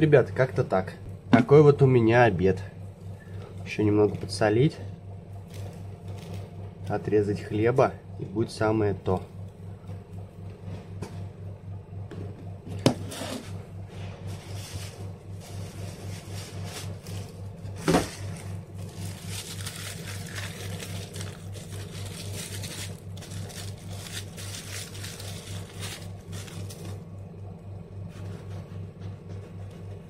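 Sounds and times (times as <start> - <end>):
pulsing low machine hum: 0.0 - 30.0.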